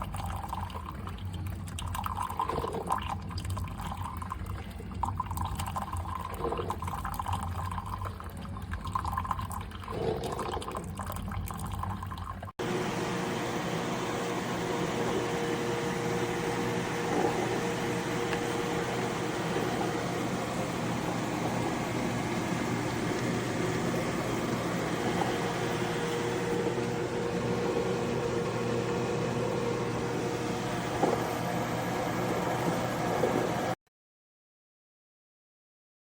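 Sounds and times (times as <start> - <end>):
coffee gurgling into a cup: 0.0 - 12.7, 13.8 - 33.8.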